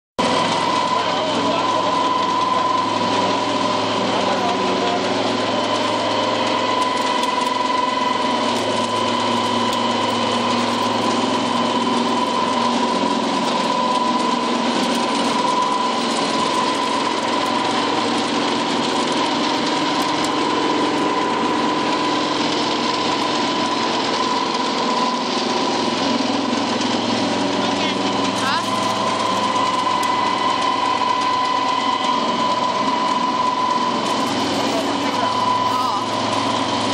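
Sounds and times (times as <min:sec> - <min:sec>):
pellet mill droning and whining: 0:00.2 - 0:36.9.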